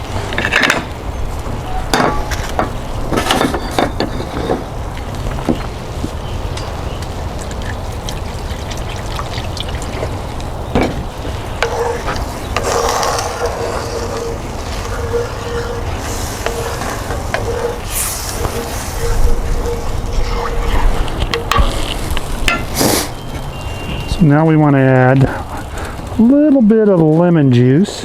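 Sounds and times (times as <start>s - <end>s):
gravy simmering and sizzling: 0.0s - 27.0s.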